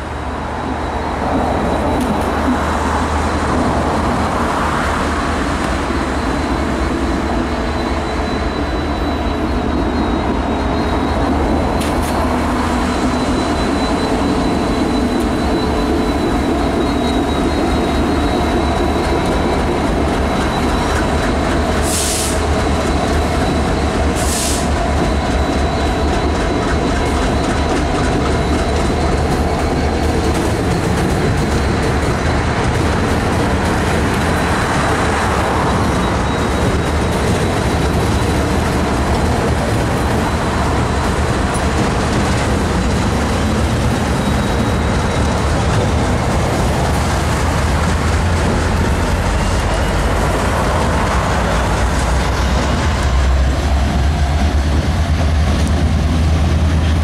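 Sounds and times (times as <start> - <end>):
freight train rumbling over bridge: 0.0 - 57.0.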